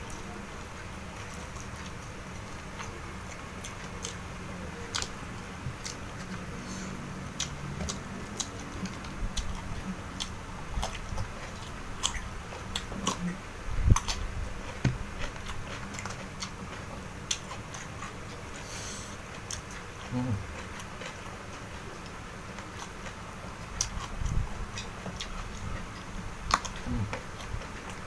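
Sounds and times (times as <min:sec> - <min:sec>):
chewing and biting food: 0:00.8 - 0:06.6, 0:07.3 - 0:18.7, 0:19.3 - 0:28.0.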